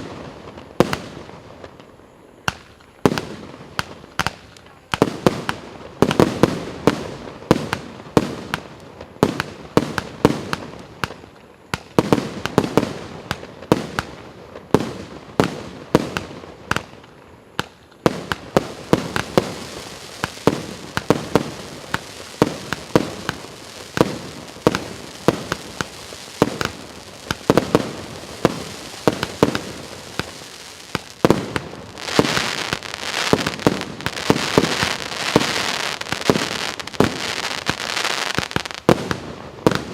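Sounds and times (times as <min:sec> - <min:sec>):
firework crackling hiss: 0:00.0 - 0:39.9.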